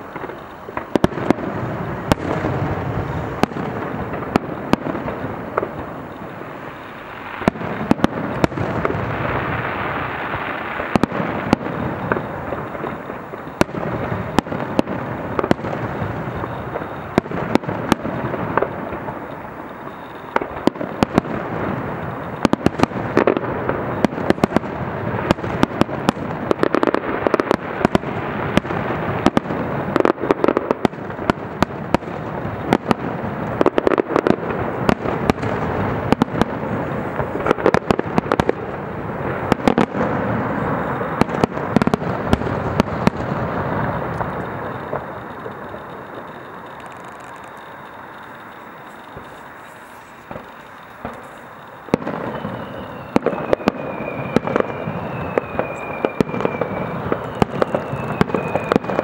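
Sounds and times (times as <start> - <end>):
fireworks cracking and popping: 0.0 - 59.0
rumble of firework bursts: 0.0 - 59.0.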